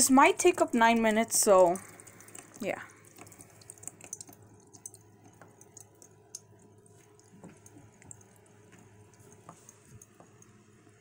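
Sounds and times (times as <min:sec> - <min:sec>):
water dripping and splashing: 0:00.0 - 0:11.0.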